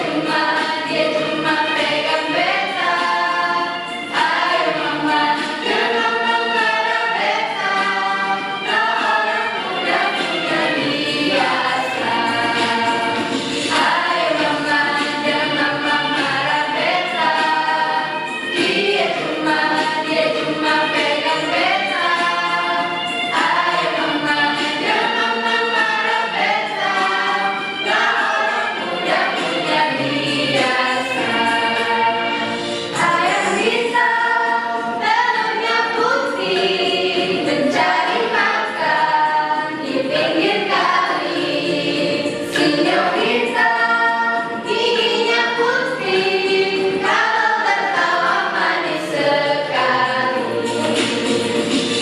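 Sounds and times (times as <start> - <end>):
choir singing in harmony: 0.0 - 52.0.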